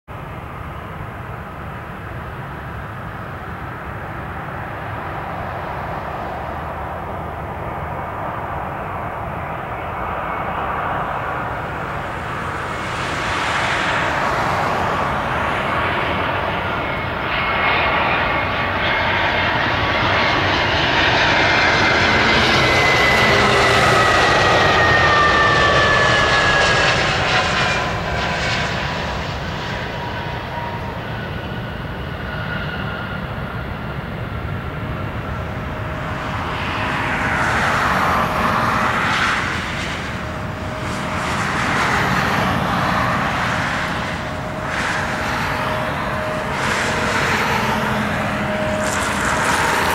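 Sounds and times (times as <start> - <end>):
jet engine rumble: 0.1 - 49.9
jet engines whining: 0.2 - 49.9.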